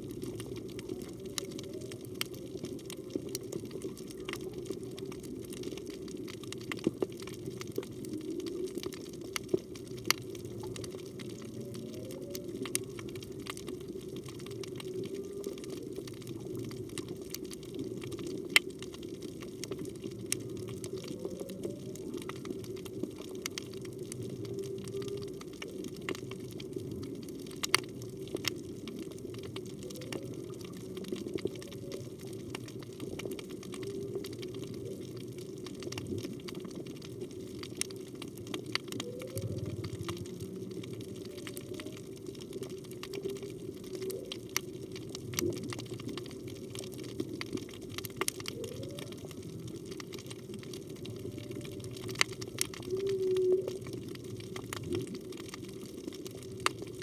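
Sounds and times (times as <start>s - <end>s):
sharp clicks and crackles: 0.0s - 57.0s.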